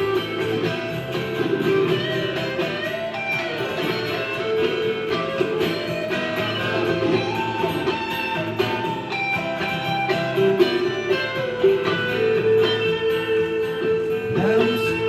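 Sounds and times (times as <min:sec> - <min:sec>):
lead guitar line: 0:00.0 - 0:15.0
strummed rhythm guitar: 0:00.0 - 0:15.0.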